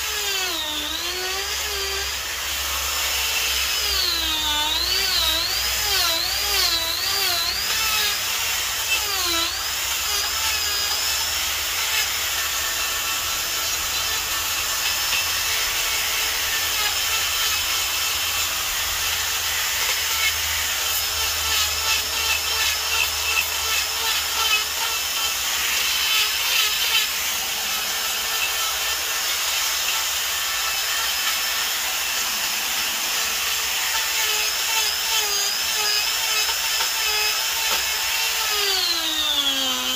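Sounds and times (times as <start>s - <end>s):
die grinder whining: 0.0s - 39.9s.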